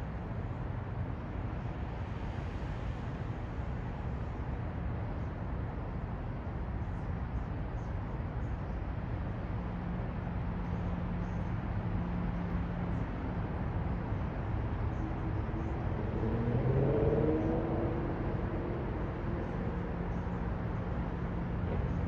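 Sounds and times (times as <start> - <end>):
city traffic rumble: 0.0 - 22.0
vehicle engine hum: 0.0 - 22.0.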